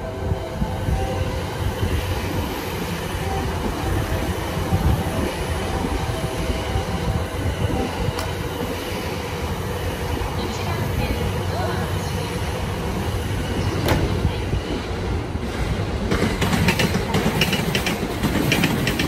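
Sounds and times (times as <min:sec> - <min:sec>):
electric train rumble and hum: 0:00.0 - 0:19.0.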